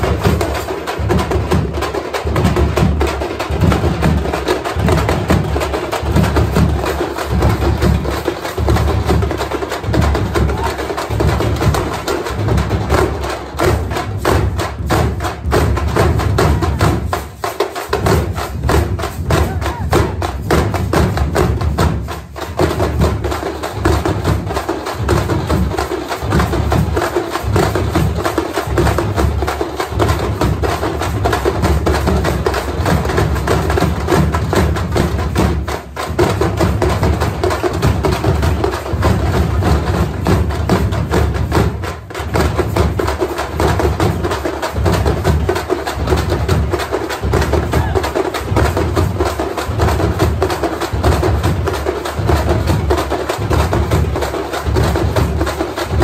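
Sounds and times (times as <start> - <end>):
frame drums beaten with sticks: 0.0 - 56.0.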